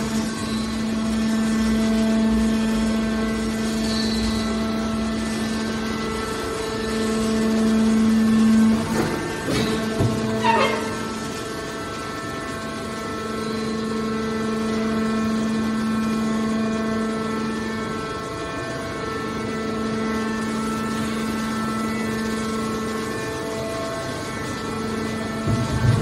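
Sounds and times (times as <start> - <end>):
hydraulic power unit humming: 0.0 - 26.0.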